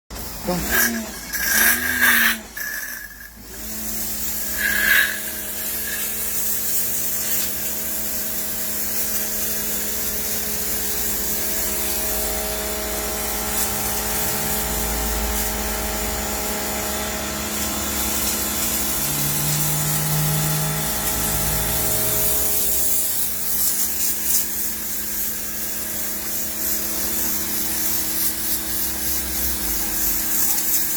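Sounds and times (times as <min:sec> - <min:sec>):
pressure washer motor hum: 0:00.1 - 0:30.9
water jet hissing: 0:00.1 - 0:30.9.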